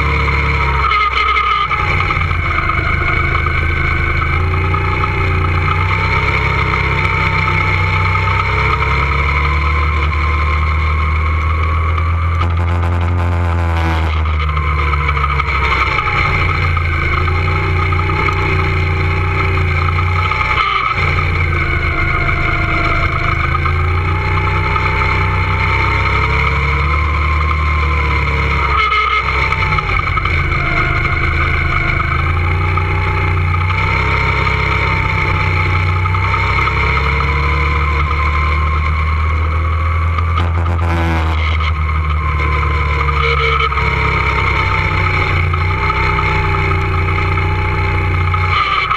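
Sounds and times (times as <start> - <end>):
go-kart motors racing: 0.0 - 48.9
low rumble: 1.4 - 48.9.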